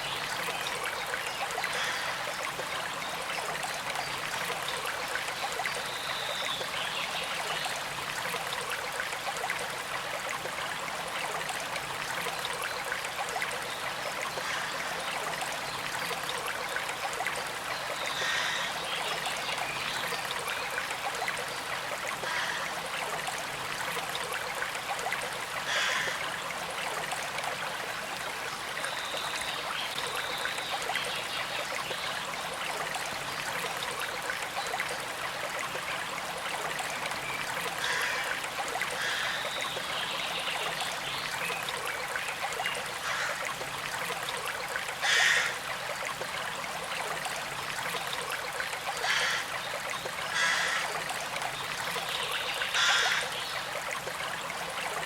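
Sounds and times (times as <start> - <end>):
creek flowing and trickling: 0.0 - 55.0.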